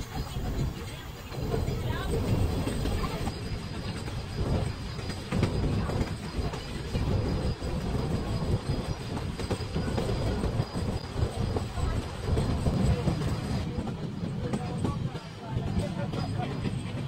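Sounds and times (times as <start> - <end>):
train wheels rumbling on rails: 0.0 - 17.0
clacks and knocks: 0.2 - 17.0.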